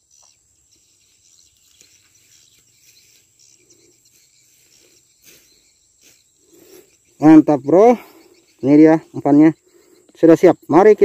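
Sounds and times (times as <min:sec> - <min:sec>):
high insect chirring: 0:00.0 - 0:11.0
soft scattered ticks: 0:00.0 - 0:11.0.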